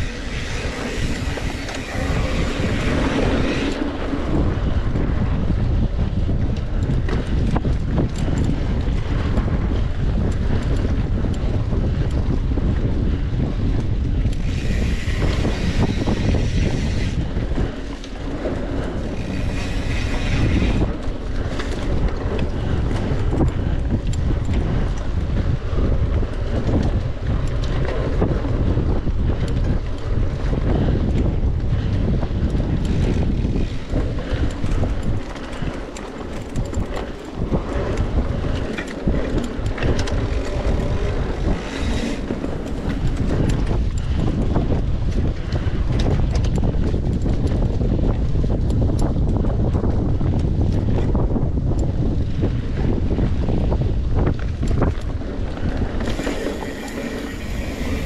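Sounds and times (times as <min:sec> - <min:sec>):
bike rattling: 0:00.0 - 0:58.0
wind buffeting microphone: 0:00.0 - 0:58.0.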